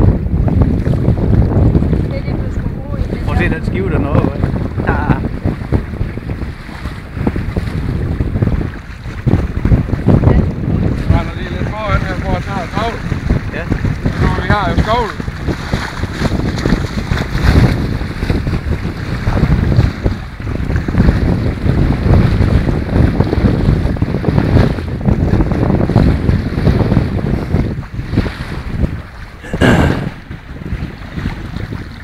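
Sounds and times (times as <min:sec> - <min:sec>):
sea waves washing: 0:00.0 - 0:32.0
wind buffeting microphone: 0:00.0 - 0:32.0.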